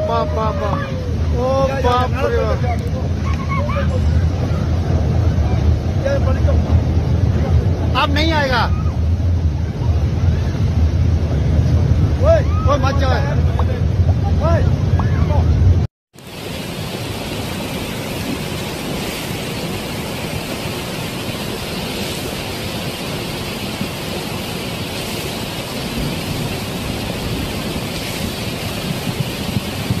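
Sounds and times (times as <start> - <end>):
flood water rushing: 0.0 - 30.0.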